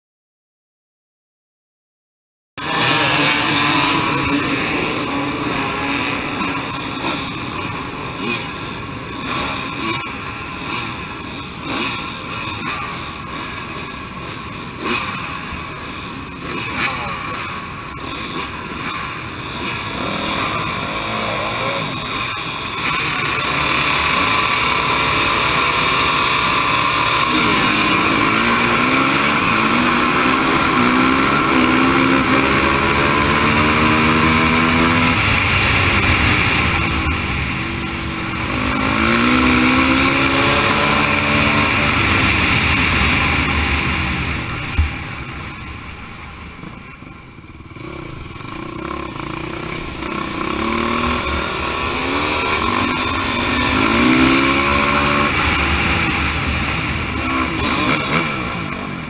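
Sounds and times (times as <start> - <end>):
dirt bike accelerating: 2.6 - 59.0
dirt bike engines running: 2.6 - 59.0.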